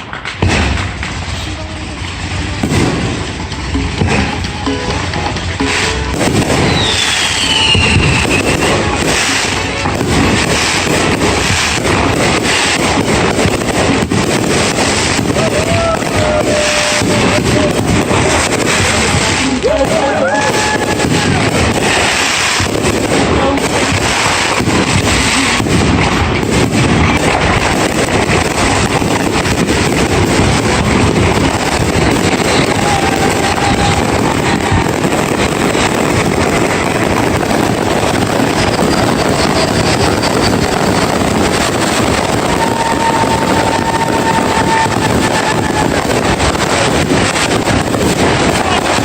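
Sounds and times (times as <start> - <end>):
fireworks crackling and popping: 0.0 - 49.0
faint firework whistling: 5.7 - 49.0.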